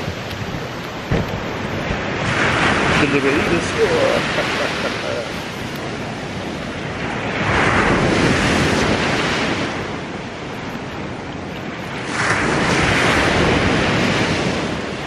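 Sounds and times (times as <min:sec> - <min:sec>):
surf breaking on a beach: 0:00.0 - 0:15.0.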